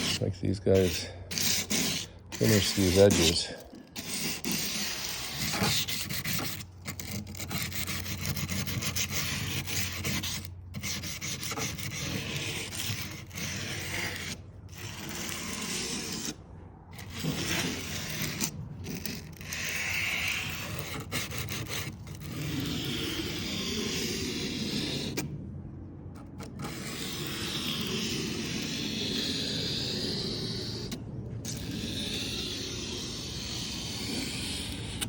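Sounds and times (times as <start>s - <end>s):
emery cloth sanding metal edge: 0.0s - 16.4s, 17.0s - 25.3s, 26.6s - 35.0s.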